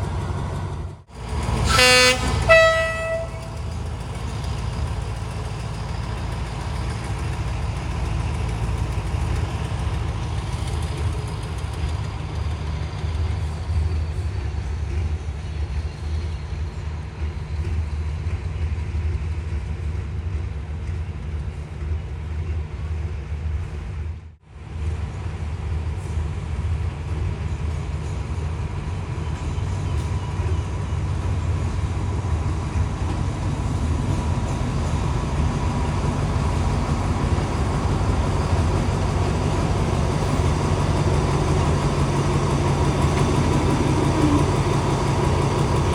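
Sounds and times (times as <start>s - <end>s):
diesel train engine rumbling: 0.0s - 45.9s.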